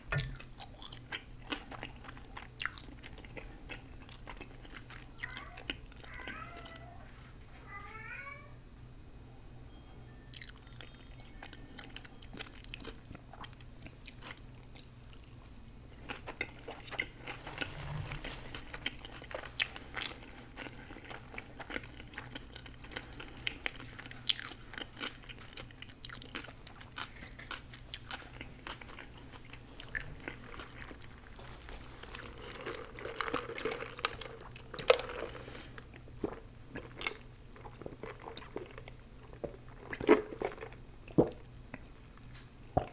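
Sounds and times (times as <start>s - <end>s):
person chewing crunchy food: 0.0s - 6.8s, 10.3s - 41.9s.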